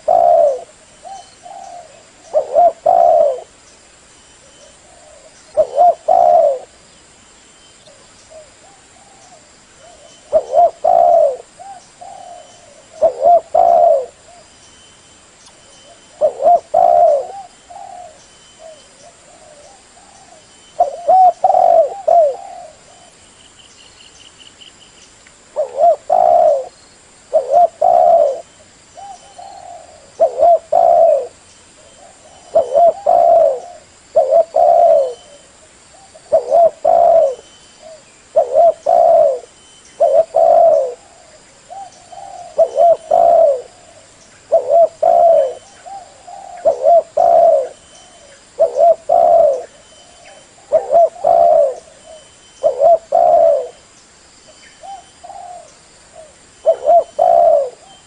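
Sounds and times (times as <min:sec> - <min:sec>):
dove cooing: 0:00.0 - 0:03.6, 0:04.5 - 0:06.8, 0:07.9 - 0:14.5, 0:15.8 - 0:23.2, 0:25.6 - 0:53.8, 0:54.8 - 0:58.0.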